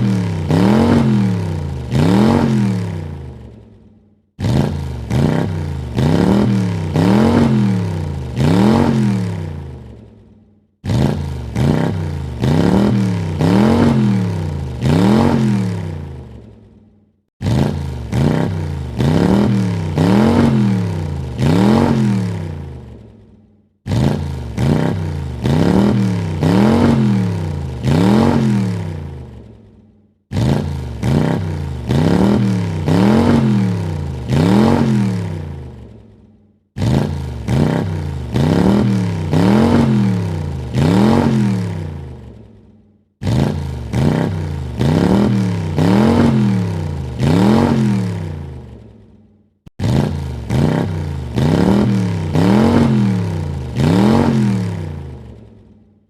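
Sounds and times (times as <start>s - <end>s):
car engine revving: 0.0s - 3.6s, 4.4s - 10.1s, 10.8s - 16.6s, 17.4s - 23.2s, 23.8s - 29.6s, 30.3s - 36.0s, 36.8s - 42.5s, 43.2s - 48.9s, 49.7s - 55.4s.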